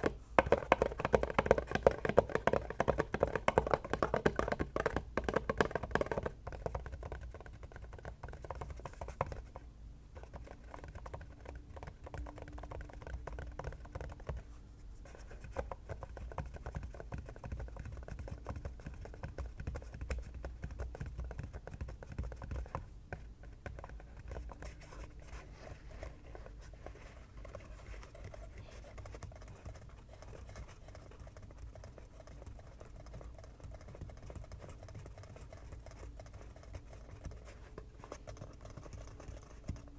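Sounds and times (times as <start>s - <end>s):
fingers tapping on an object: 0.0s - 9.6s, 10.2s - 14.4s, 15.4s - 25.0s, 27.4s - 39.9s.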